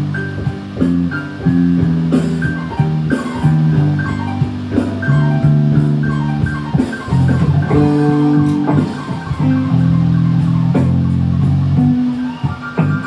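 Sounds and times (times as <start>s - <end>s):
rock blues guitar and bass: 0.0s - 13.0s.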